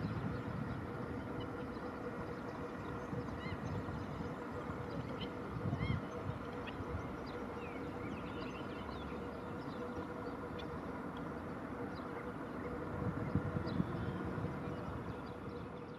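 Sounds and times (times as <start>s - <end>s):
faint hum: 0.0s - 15.9s.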